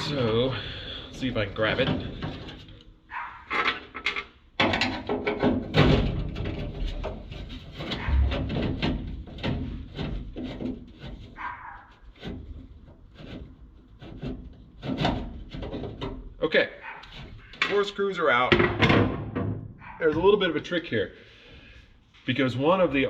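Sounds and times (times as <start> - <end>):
metal clunks and rattles: 1.2 - 16.4, 17.0 - 20.4.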